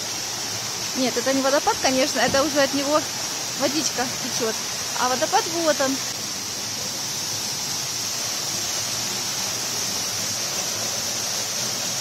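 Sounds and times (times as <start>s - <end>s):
waterfall rushing into rock pool: 0.0s - 12.0s.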